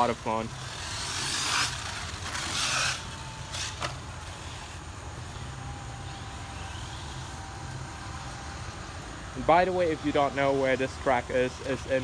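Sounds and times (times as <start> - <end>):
rc car rumble: 0.0 - 12.0.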